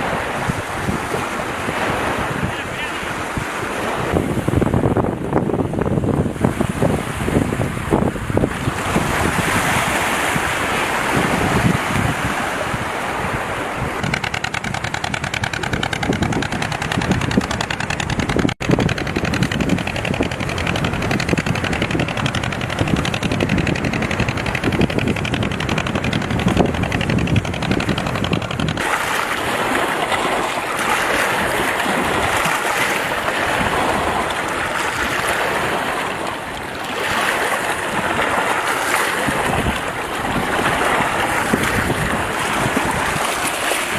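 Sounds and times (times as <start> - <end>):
wind buffeting microphone: 0.0 - 43.9
river water splashing: 6.4 - 43.9.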